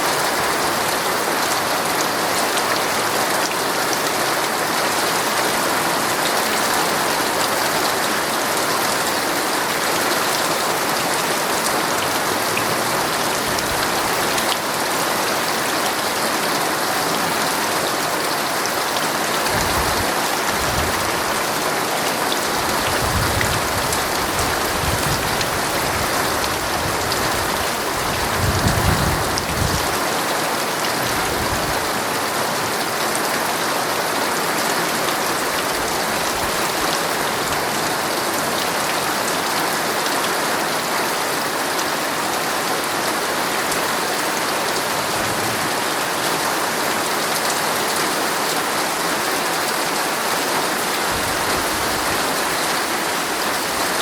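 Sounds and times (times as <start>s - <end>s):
heavy rain on tent fabric: 0.0s - 54.0s.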